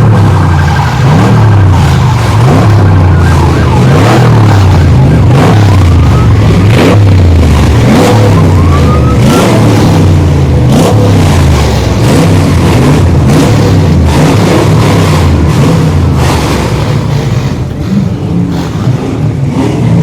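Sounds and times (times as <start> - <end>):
many car engines revving: 0.0 - 20.0.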